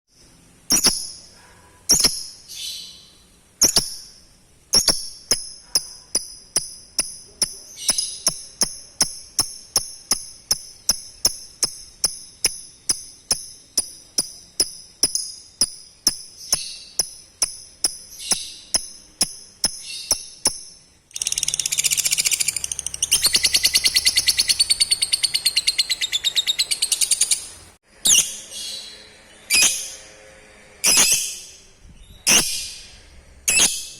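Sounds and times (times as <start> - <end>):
lovebird chirping and trilling: 0.7 - 30.0, 30.8 - 33.9.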